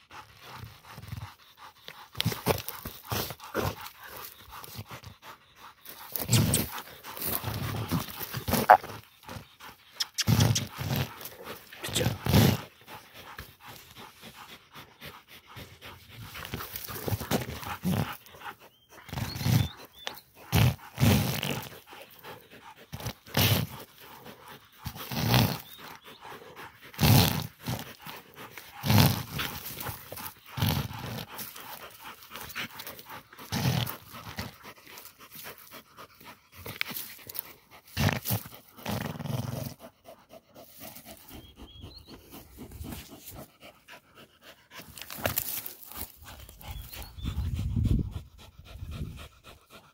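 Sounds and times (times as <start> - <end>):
dog growling and panting: 0.0 - 49.9.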